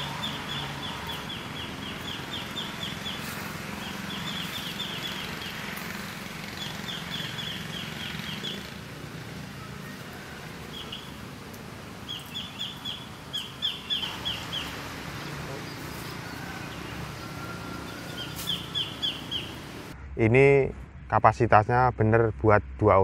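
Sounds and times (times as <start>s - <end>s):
bird chirping: 0.0s - 8.9s, 9.5s - 11.3s, 12.0s - 19.9s
steady outdoor hiss: 0.0s - 23.0s.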